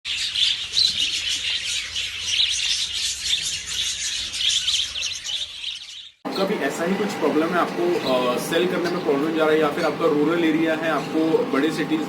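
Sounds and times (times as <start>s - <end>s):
budgerigars chirping: 0.1s - 12.0s.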